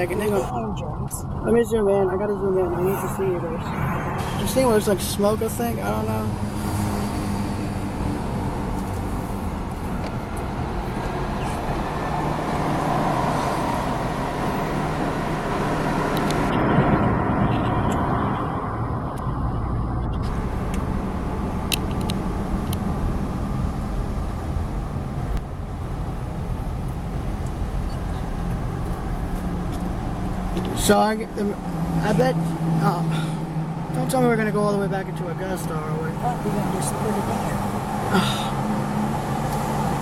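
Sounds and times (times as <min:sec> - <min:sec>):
car engine from inside cabin: 0:00.0 - 0:40.0.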